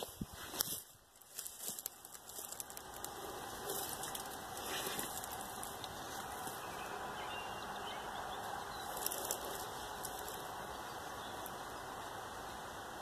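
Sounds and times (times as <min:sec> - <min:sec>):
dry leaves crackling underfoot: 0:00.0 - 0:11.7
background hiss: 0:00.0 - 0:13.0.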